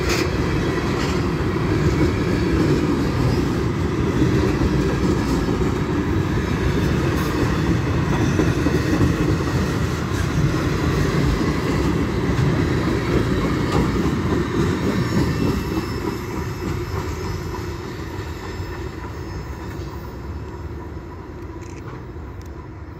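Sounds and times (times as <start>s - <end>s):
train wheels rolling on rails: 0.0s - 22.9s.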